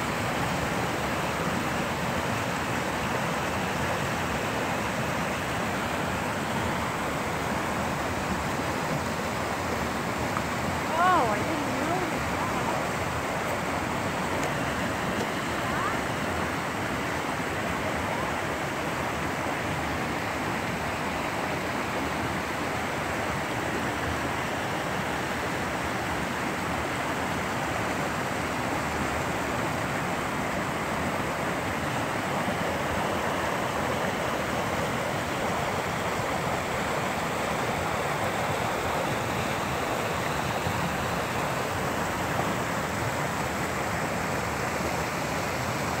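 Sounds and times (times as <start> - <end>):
brook water rushing over rocks: 0.0 - 46.0.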